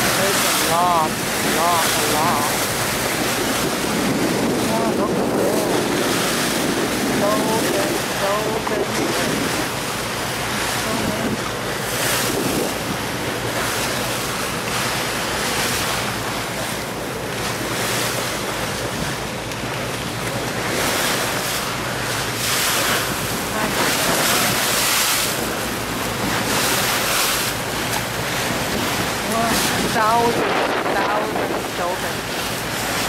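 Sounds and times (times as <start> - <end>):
water rushing past boat hull: 0.0 - 33.0
wind buffeting microphone: 0.0 - 33.0.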